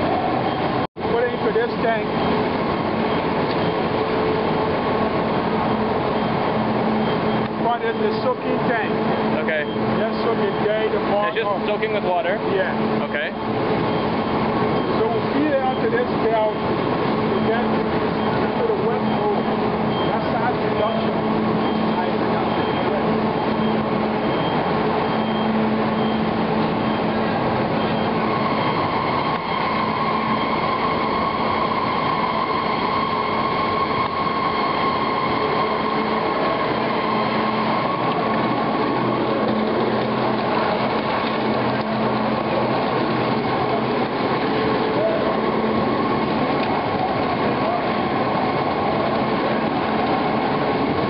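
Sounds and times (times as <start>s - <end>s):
machine whine: 0.0s - 51.0s
processing machinery din: 0.0s - 51.0s.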